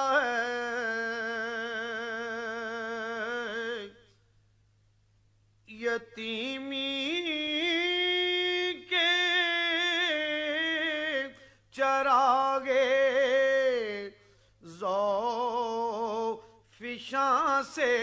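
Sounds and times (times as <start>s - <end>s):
man singing unaccompanied: 0.0s - 4.1s, 5.7s - 18.0s.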